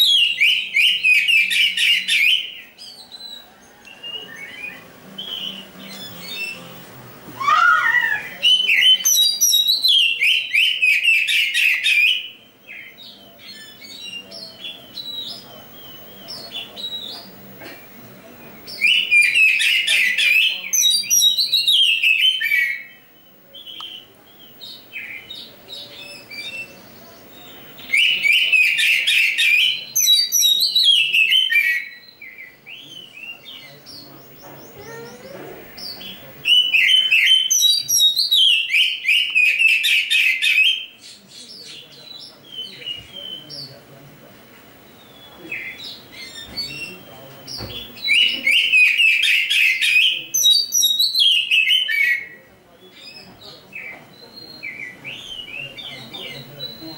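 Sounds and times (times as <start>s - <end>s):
soft bird notes: 0.0s - 56.9s.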